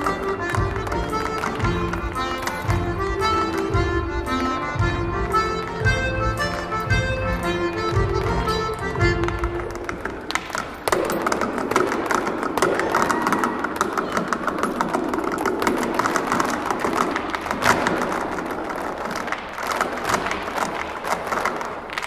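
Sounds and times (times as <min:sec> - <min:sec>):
hard shoes tapping on wooden stage: 0:00.0 - 0:22.0.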